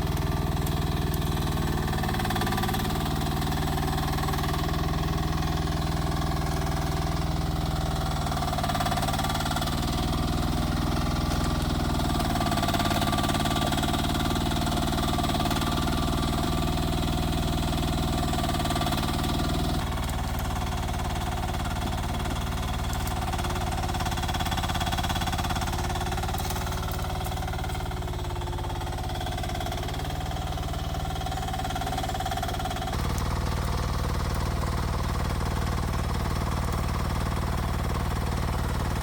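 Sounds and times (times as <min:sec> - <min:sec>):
mini excavator engine running: 0:00.0 - 0:39.0.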